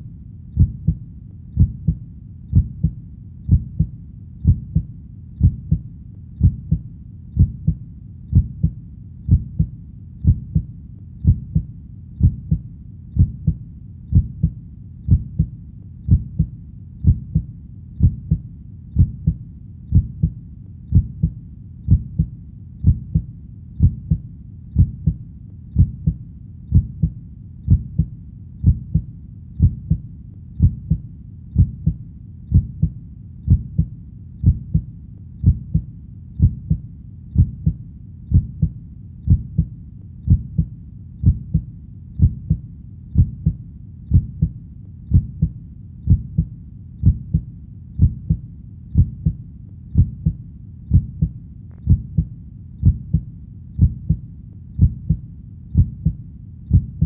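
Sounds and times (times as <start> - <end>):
low steady rumble: 0.0 - 57.0
heartbeat thumps: 0.6 - 57.0.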